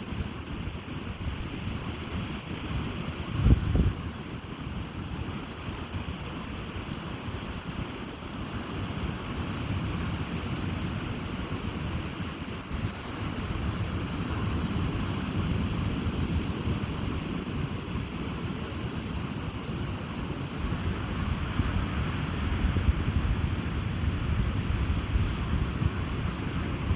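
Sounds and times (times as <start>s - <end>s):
surf washing on beach: 0.0s - 26.9s
wind buffeting microphone: 0.2s - 8.1s, 8.8s - 26.9s.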